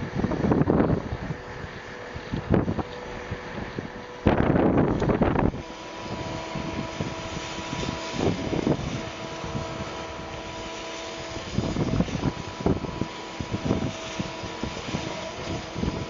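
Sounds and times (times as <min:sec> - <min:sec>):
diesel engines humming: 0:00.0 - 0:16.0.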